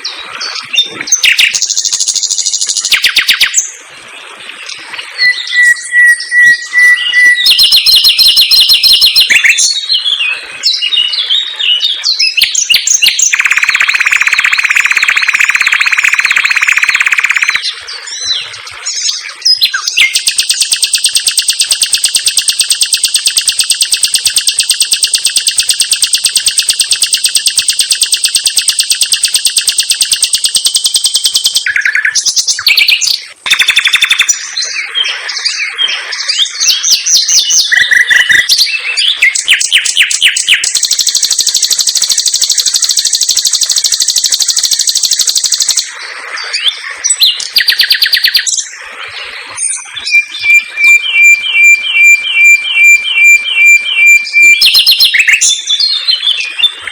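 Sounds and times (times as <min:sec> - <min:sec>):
nightingale singing: 0:00.0 - 0:03.8, 0:05.2 - 0:56.9.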